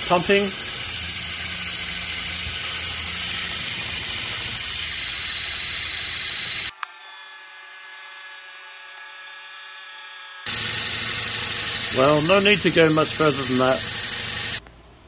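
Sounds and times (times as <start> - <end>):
toy motor whirring and whining: 0.0 - 14.6.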